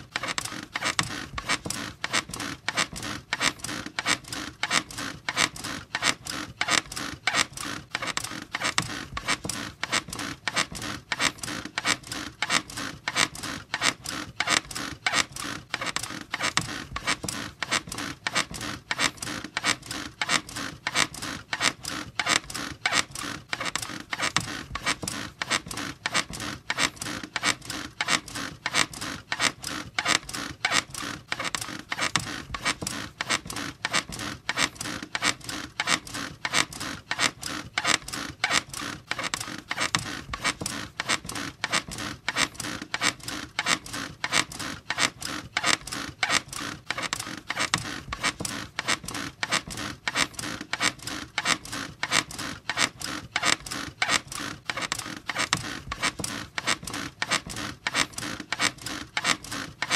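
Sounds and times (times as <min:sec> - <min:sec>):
bed squeaking rhythmically: 0:00.0 - 0:59.9.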